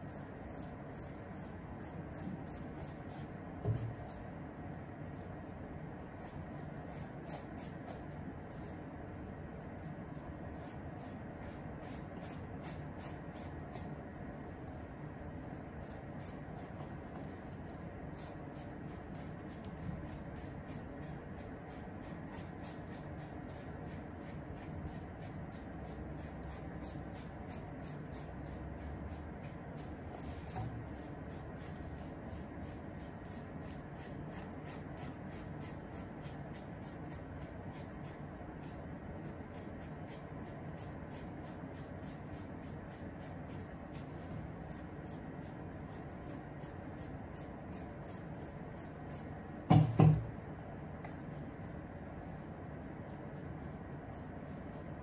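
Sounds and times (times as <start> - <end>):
room hum: 0.0 - 55.0.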